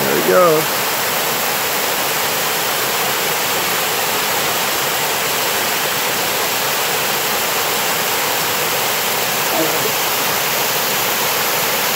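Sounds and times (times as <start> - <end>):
water washing over rocks: 0.0 - 11.9.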